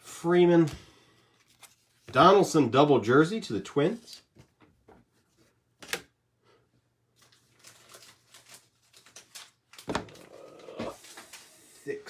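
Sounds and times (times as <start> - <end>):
cards and plastic sleeves rustling: 0.2 - 6.0, 7.1 - 12.0.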